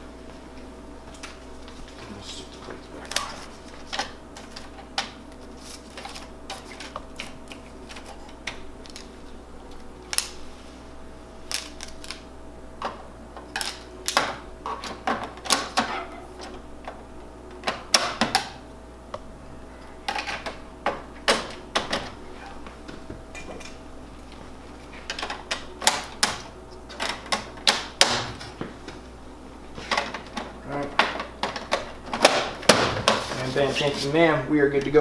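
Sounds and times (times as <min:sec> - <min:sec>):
faint copier hum: 0:00.0 - 0:35.0.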